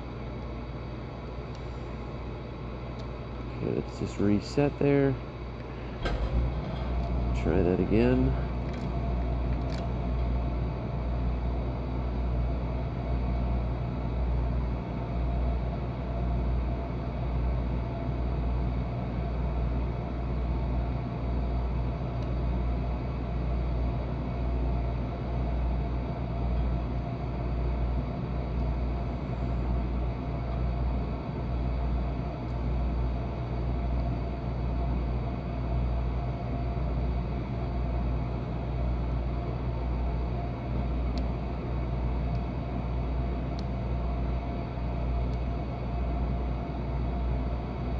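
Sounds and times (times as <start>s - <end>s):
low rumbling hum: 0.0s - 47.9s.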